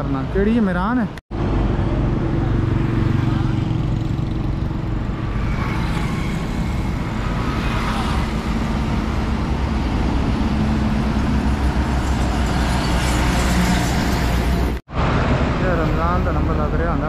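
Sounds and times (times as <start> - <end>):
trucks and traffic driving past: 0.0 - 17.0.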